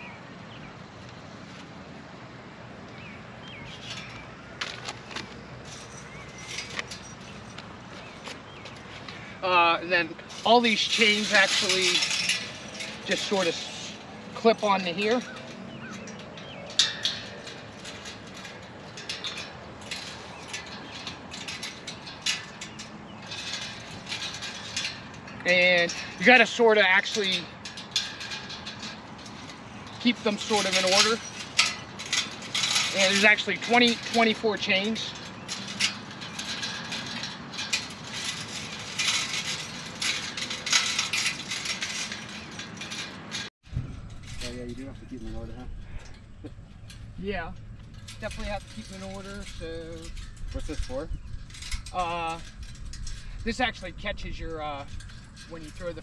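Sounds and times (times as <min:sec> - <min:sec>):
metal chains clinking: 0:05.1 - 0:53.8.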